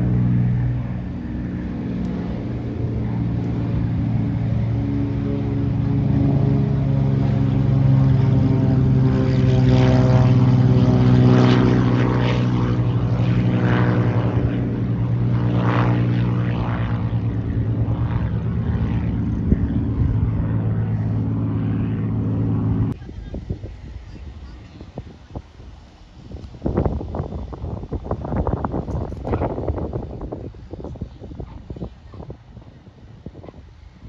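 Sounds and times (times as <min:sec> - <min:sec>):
propeller airplane engine drone: 0:00.0 - 0:34.0.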